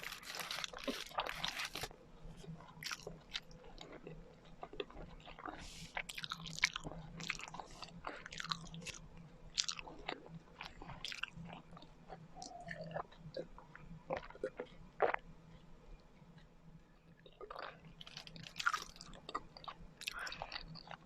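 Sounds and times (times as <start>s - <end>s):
chewing and biting: 0.0s - 15.7s, 17.3s - 21.0s.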